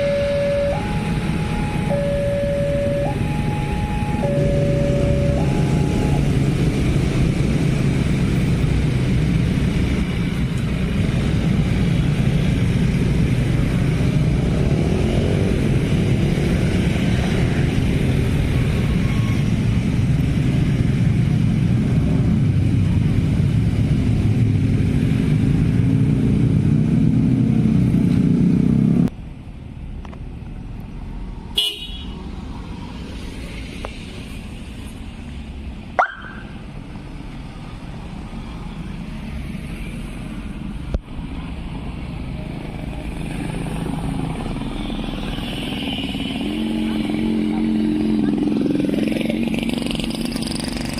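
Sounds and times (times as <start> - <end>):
motorcycles and cars passing: 0.0 - 50.9.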